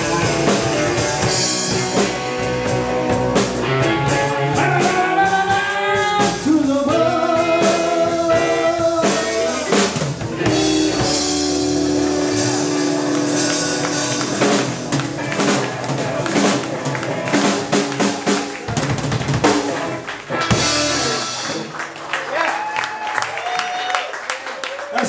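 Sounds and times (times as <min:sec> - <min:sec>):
live rock band playing: 0:00.0 - 0:22.3.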